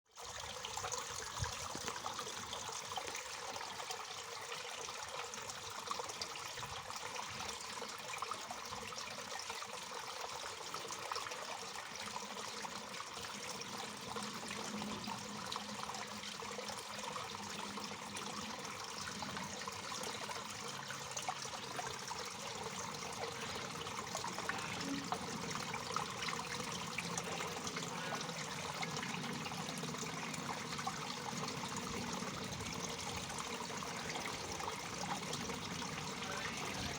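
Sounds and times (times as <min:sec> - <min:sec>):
water trickling patter: 0:00.1 - 0:36.9.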